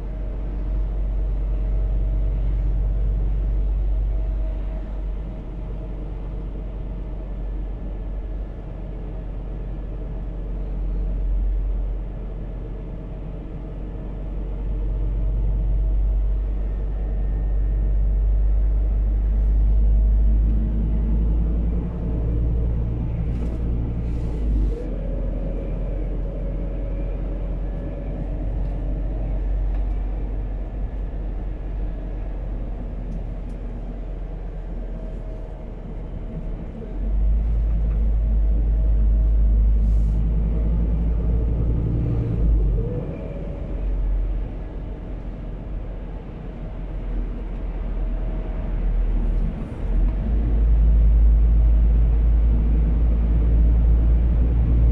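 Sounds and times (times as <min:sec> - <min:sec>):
road noise: 0:00.0 - 0:54.9
truck engine rumbling: 0:00.0 - 0:54.9.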